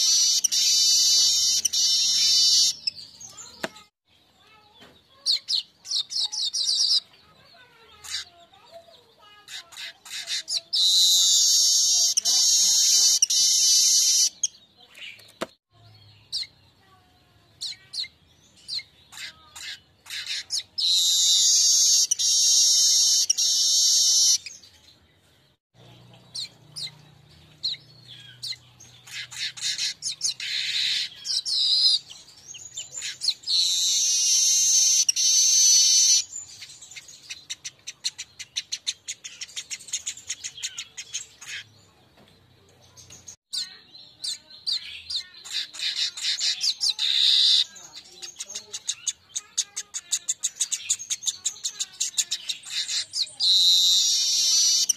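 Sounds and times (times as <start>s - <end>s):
bird song wheezy phrases: 0.0s - 54.9s.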